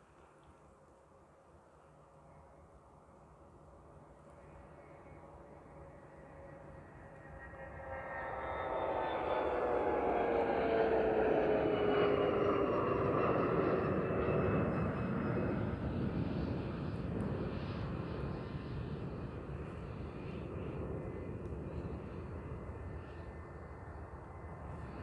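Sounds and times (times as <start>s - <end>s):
jet engines roaring with whining fans: 1.5s - 25.0s.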